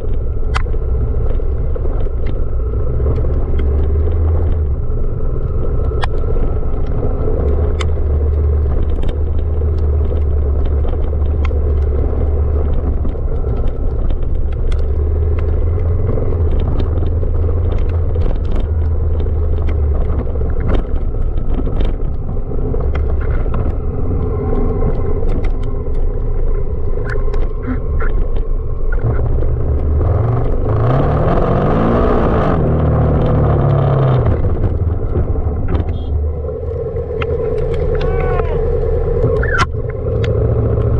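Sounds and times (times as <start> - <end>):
clicks and knocks under tyres: 0.0 - 40.9
motorcycle engine running: 0.0 - 40.9.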